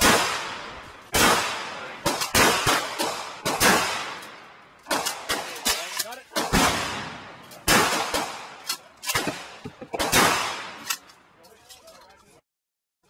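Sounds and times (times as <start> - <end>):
gunshots echoing: 0.0 - 11.1.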